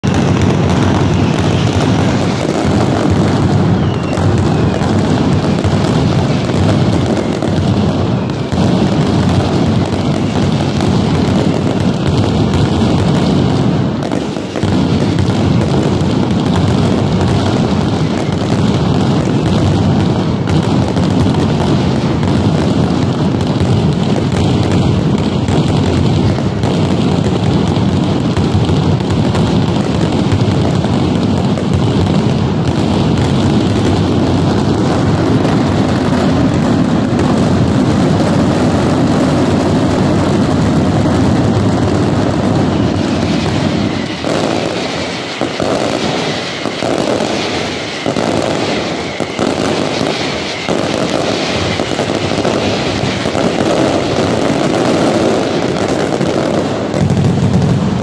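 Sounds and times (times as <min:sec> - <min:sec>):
firecracker barrage: 0:00.0 - 0:58.0.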